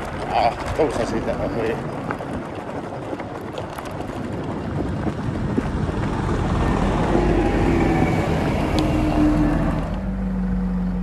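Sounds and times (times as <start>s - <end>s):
bike rolling on gravel: 0.0s - 10.2s
wind on microphone: 0.0s - 10.7s
tractor engine droning: 0.0s - 11.0s.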